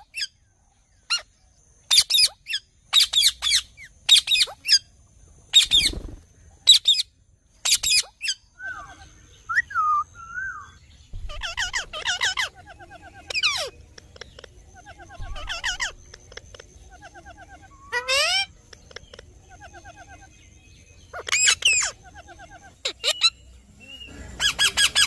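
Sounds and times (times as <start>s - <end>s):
parakeets screeching: 1.9s - 4.8s, 5.5s - 9.0s, 10.6s - 25.0s
parakeets warbling chatter: 1.9s - 4.9s, 5.5s - 9.1s, 11.1s - 25.0s.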